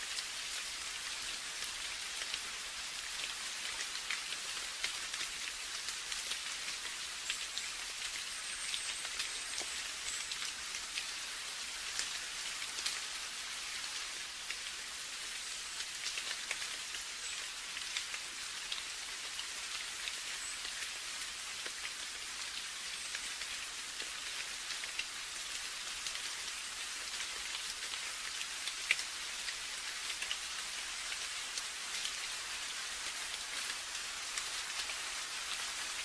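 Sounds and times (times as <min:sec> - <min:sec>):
rain hiss: 0:00.0 - 0:36.0.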